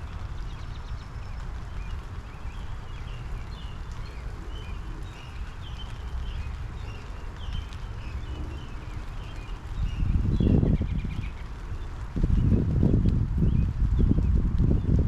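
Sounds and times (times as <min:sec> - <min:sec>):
rain shower falling: 0:00.0 - 0:15.0
small birds chirping: 0:00.0 - 0:15.0.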